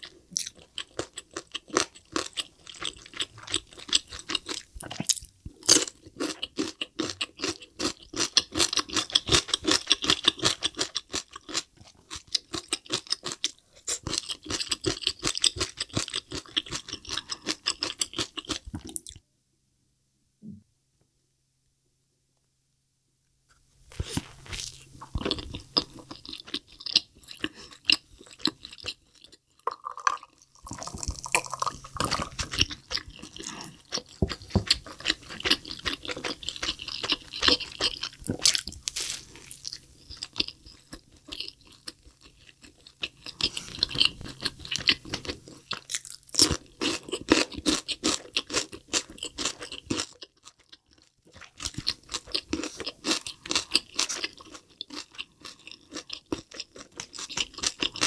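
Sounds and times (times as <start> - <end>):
chewing burger: 0.0 - 19.2, 23.9 - 58.0.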